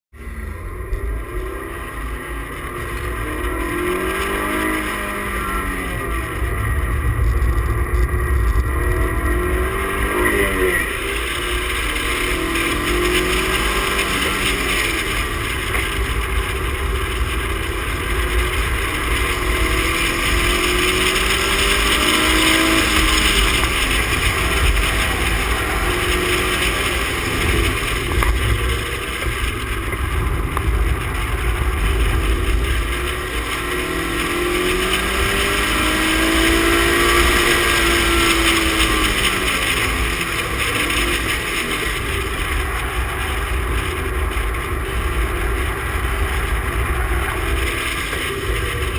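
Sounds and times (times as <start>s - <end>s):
car engine revving: 0.1s - 48.9s
steady low rumble: 0.1s - 48.9s.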